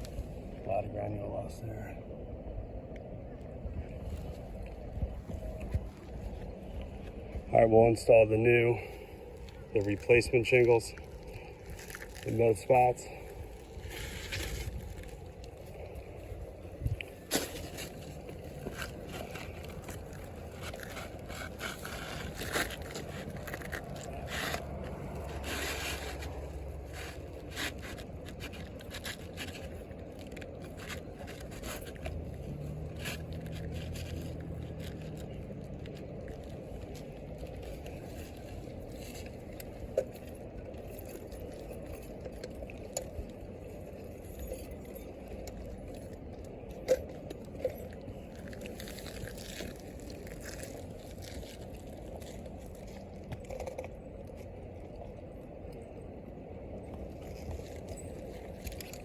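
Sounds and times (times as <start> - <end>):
low rumble of wind: 0.0 - 59.0.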